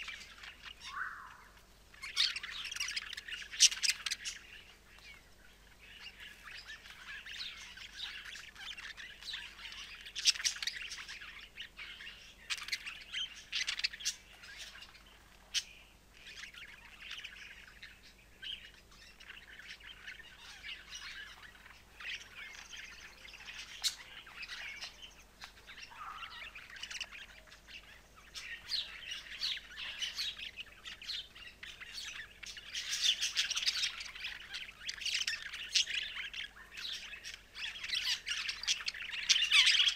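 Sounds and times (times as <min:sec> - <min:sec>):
budgerigars warbling: 0:00.0 - 0:39.9.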